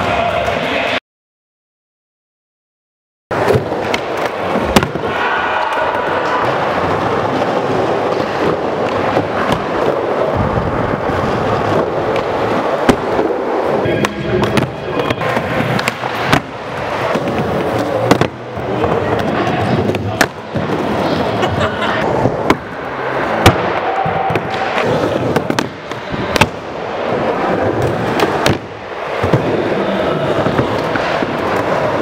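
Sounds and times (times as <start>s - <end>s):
skateboards rolling on ramps: 3.3s - 32.0s
skateboard clacks: 3.4s - 32.0s.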